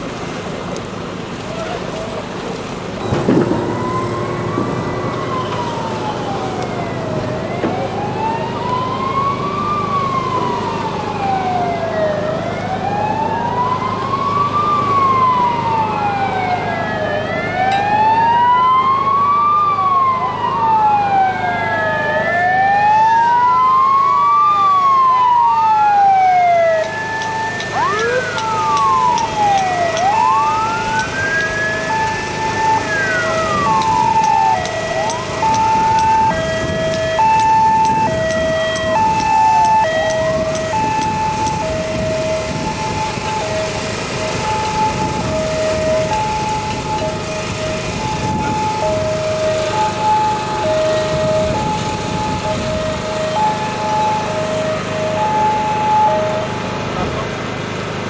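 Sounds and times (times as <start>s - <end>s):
emergency sirens wailing: 0.0s - 58.0s
two-tone siren: 3.0s - 57.1s.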